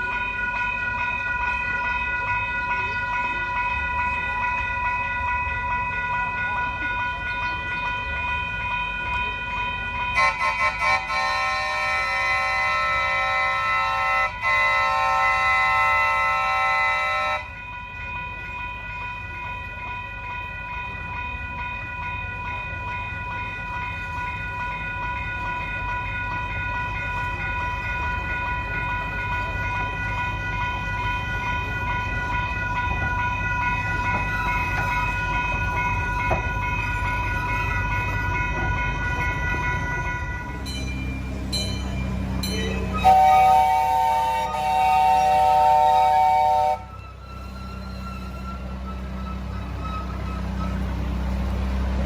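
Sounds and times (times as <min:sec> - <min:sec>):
train engine whine and rumble: 0:00.0 - 0:52.0.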